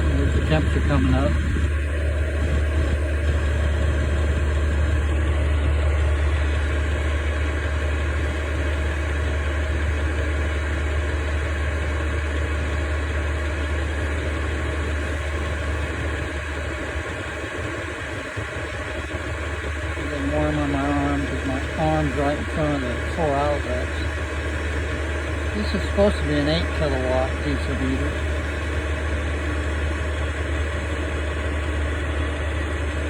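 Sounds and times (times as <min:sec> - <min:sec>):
heater fan rushing air: 0:00.0 - 0:33.0
strong low hum: 0:00.0 - 0:33.0.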